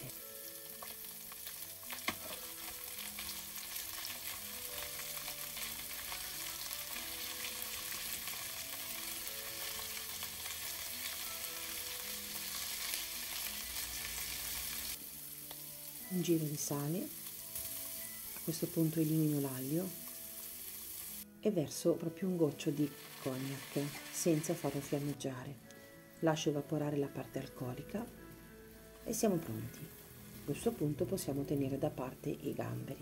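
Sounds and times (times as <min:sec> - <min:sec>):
prawns sizzling in oil: 0:00.0 - 0:21.3, 0:22.2 - 0:26.4, 0:27.1 - 0:33.0.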